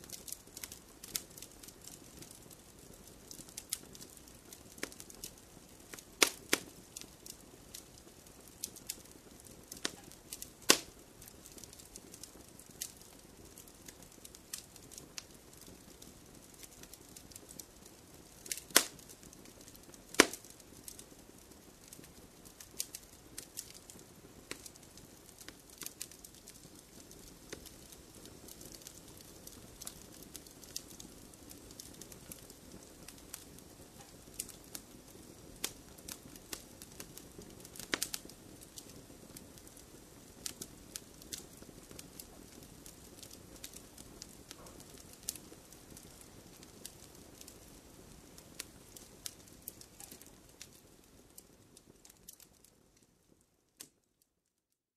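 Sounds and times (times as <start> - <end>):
low rush of flames: 0.0 - 53.4
wood fire pops and snaps: 0.0 - 54.2.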